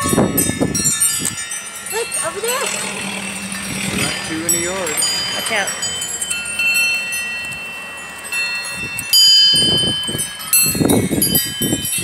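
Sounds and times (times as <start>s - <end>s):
low gusty noise: 0.0s - 12.0s
wind chimes ringing: 0.0s - 12.0s.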